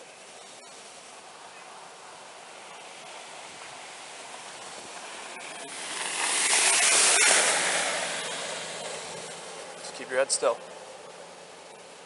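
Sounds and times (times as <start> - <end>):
steady background hiss: 0.0 - 12.0
vehicle passing on road: 0.0 - 12.0.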